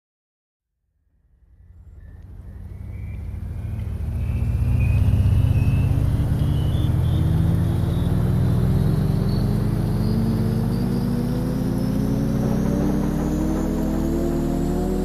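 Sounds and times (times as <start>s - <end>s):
engine drone rising in pitch: 1.2s - 15.0s.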